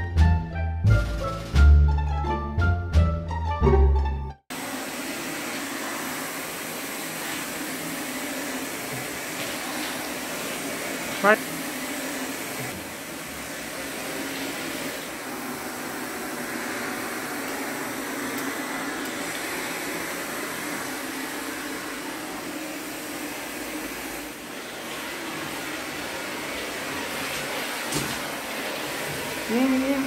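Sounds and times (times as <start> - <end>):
vacuum cleaner running: 4.5 - 30.0.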